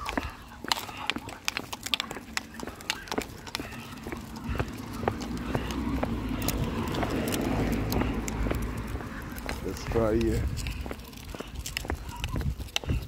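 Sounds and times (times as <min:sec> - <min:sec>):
footsteps on stone paving: 0:00.0 - 0:13.0.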